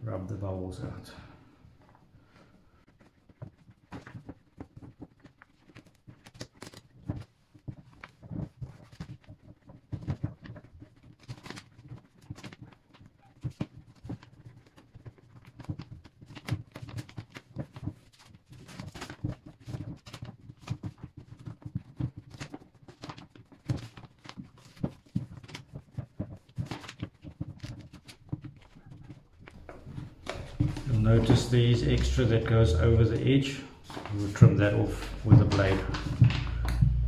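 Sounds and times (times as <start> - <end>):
cloth rubbing on vinyl film: 2.8 - 37.0
paper backing rustling: 2.9 - 37.0.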